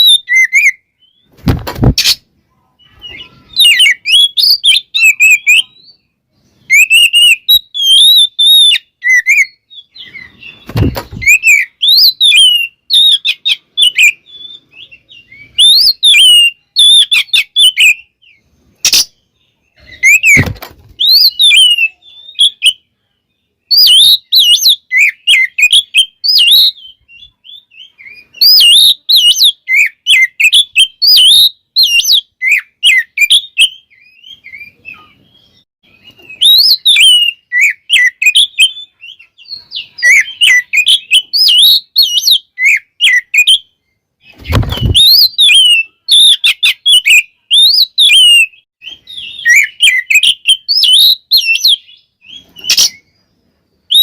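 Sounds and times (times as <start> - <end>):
magpie-robin singing: 0.0 - 1.3, 1.9 - 54.0.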